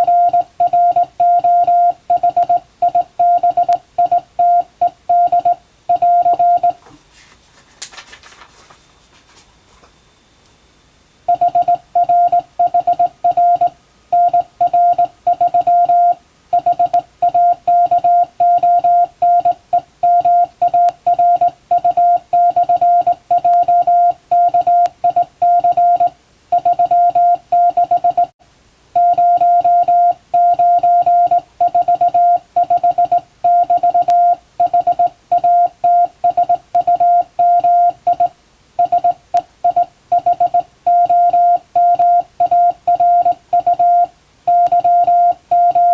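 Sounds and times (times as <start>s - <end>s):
morse code beeps: 0.0s - 6.8s, 11.3s - 28.3s, 29.0s - 45.9s.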